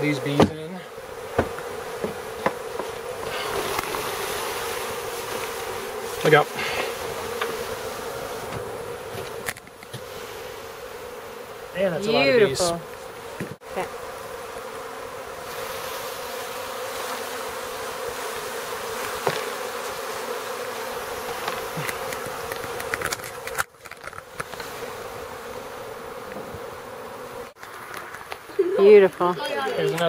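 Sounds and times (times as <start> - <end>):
honey bees buzzing: 0.0 - 30.0.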